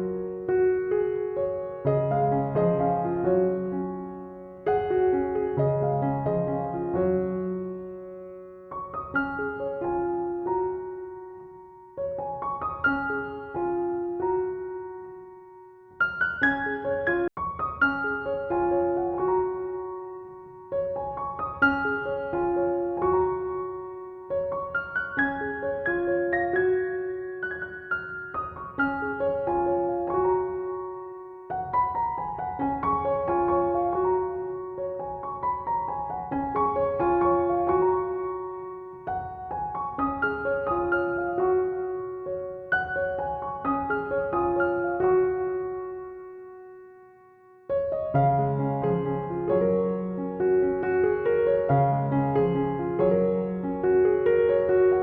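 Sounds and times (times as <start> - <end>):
slow piano melody: 0.0 - 55.0.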